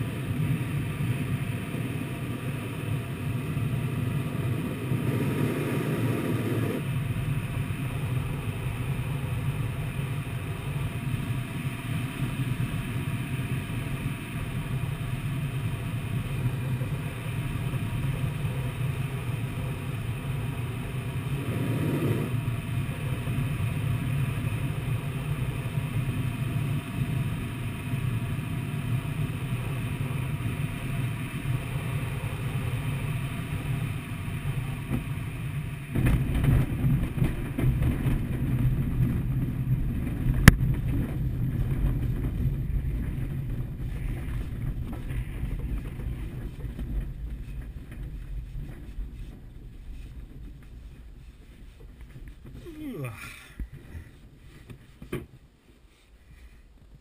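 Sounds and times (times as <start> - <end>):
airflow rushing over glider: 0.0 - 57.0.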